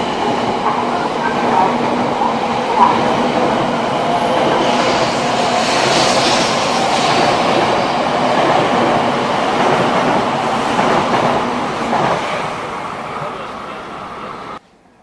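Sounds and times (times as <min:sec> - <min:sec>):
train rolling past: 0:00.0 - 0:14.6.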